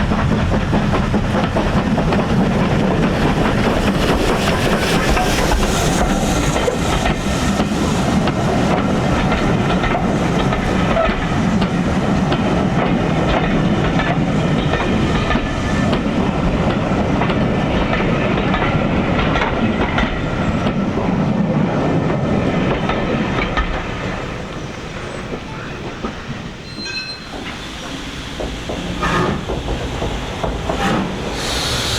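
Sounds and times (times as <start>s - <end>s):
train rumble: 0.0s - 31.9s
train wheels clicking over rail joints: 0.0s - 31.9s.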